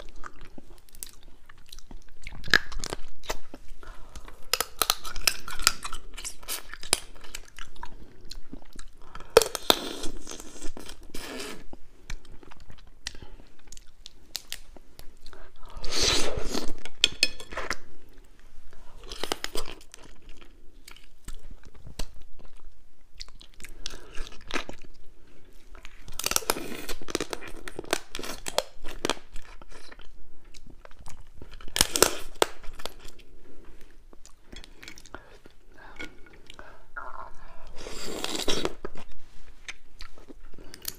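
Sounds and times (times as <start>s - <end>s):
crunching and chewing crab shell: 0.0s - 15.6s, 19.0s - 25.1s, 25.7s - 33.3s, 34.1s - 40.9s.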